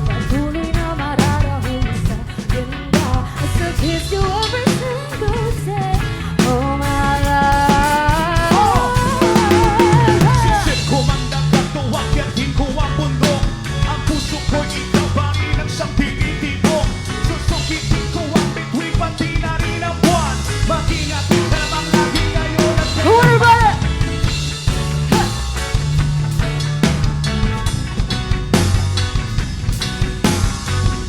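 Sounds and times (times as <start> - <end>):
live reggae band playing: 0.0 - 31.0.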